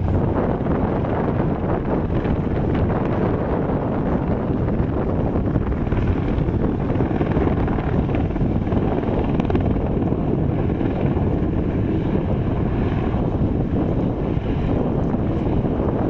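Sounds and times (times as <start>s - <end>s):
helicopter flying by: 0.0s - 16.0s.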